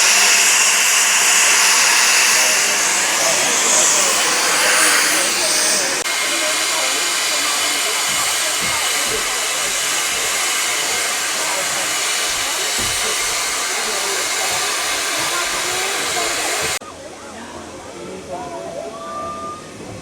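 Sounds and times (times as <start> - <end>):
steam locomotive hissing steam: 0.0 - 16.8
faint crowd voices: 0.0 - 20.0.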